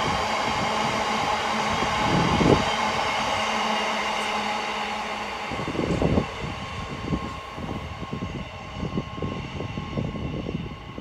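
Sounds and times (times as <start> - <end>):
freight train wheels rolling: 0.0 - 11.0
wind buffeting microphone: 0.0 - 11.0.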